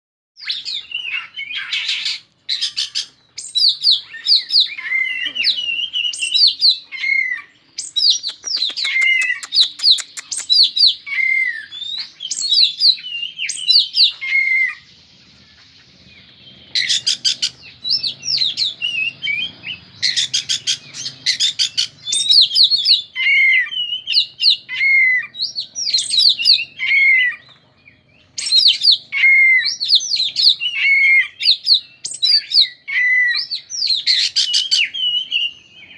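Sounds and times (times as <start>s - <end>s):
bird singing whistles and trills: 0.4s - 35.9s.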